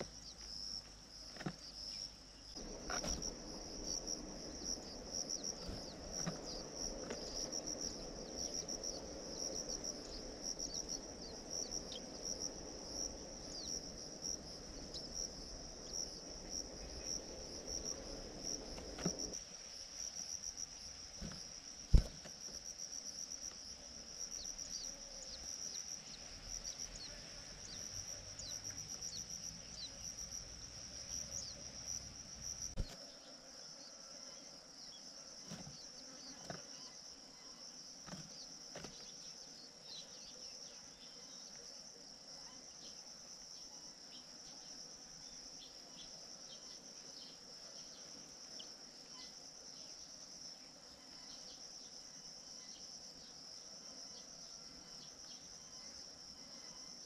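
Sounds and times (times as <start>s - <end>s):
cricket trilling: 0.0s - 57.0s.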